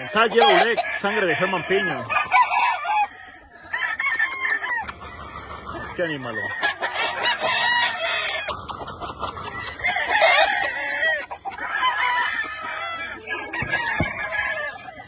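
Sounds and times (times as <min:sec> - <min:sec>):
chickens clucking: 0:00.0 - 0:15.0
roosters crowing: 0:00.0 - 0:15.0.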